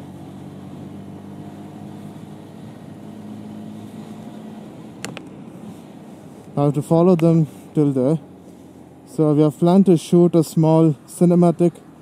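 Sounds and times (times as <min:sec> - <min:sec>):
motorcycle engine cruising: 0:00.0 - 0:10.2.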